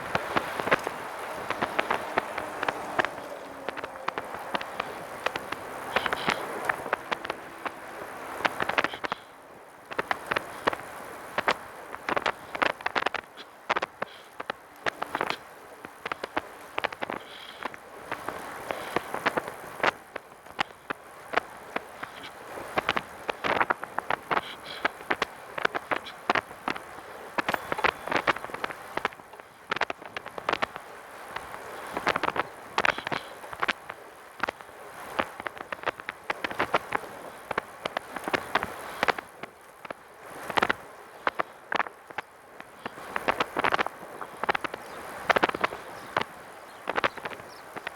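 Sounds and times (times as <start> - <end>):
road noise: 0.0 - 47.9.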